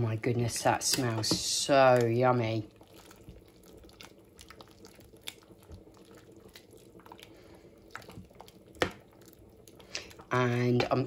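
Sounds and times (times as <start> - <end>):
ladle stirring thick chilli: 1.0 - 11.0.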